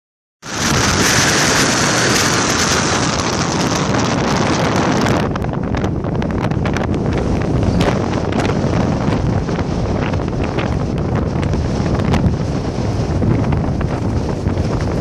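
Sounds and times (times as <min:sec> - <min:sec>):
wind buffeting microphone: 0:00.4 - 0:15.0.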